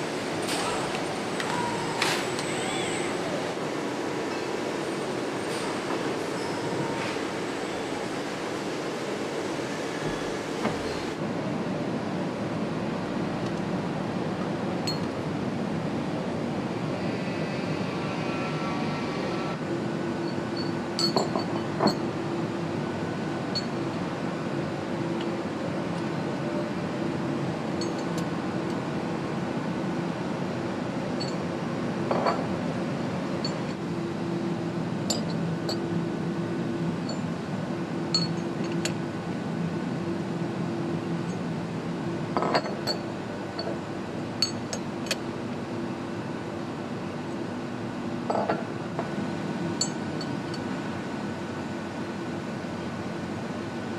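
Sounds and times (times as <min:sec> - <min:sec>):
factory hall hum: 0:00.0 - 0:53.9.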